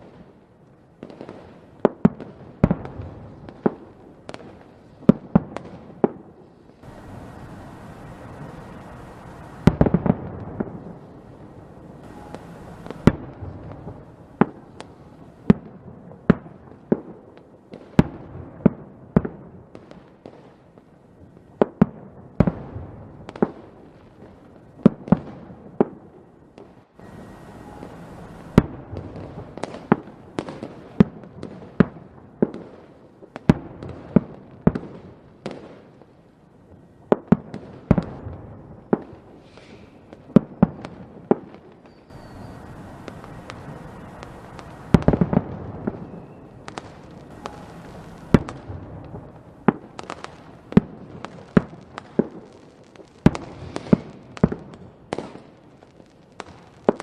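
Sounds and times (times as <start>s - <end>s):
fireworks rumble and crackle: 0.0s - 57.0s
fireworks bangs: 1.0s - 36.1s, 36.7s - 57.0s.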